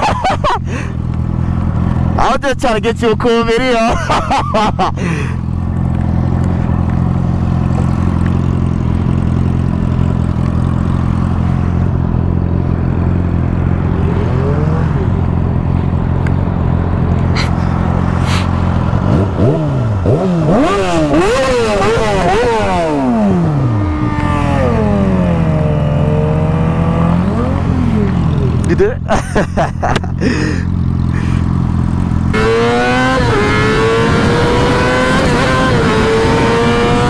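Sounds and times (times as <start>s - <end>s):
engine idling and revving: 0.0s - 37.0s.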